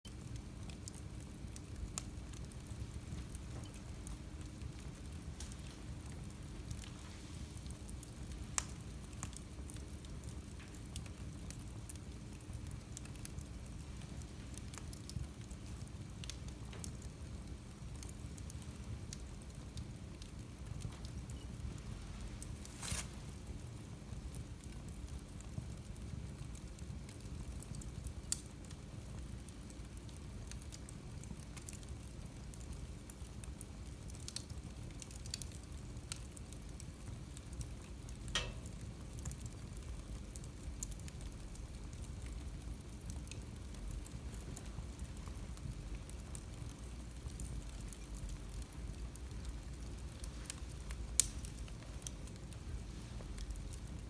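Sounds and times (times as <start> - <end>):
fire crackles and pops: 0.1 - 54.0
low rumble of flames: 0.1 - 54.0.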